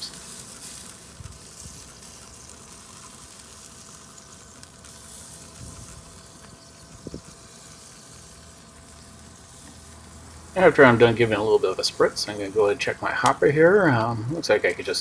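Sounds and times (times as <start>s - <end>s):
faint steady hum: 0.0s - 15.0s
ribs sizzling on grill: 0.0s - 15.0s.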